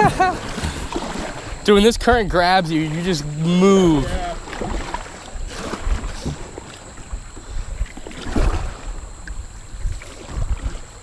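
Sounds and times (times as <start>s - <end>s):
water splashing against kayak hull: 0.0s - 11.0s.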